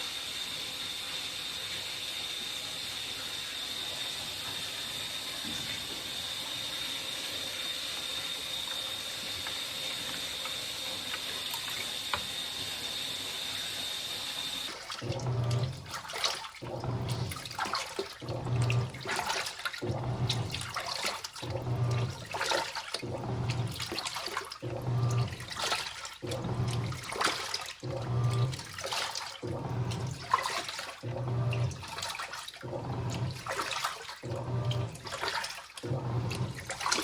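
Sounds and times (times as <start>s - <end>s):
washing machine churning water: 0.0s - 37.0s.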